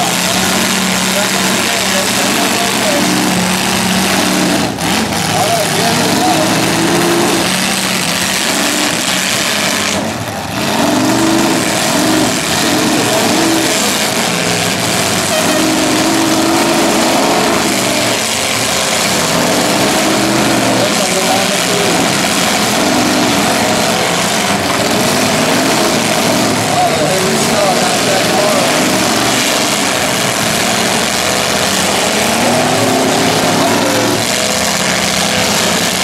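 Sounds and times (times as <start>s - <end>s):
car engines revving: 0.0s - 36.0s
cars grinding against each other: 0.0s - 36.0s.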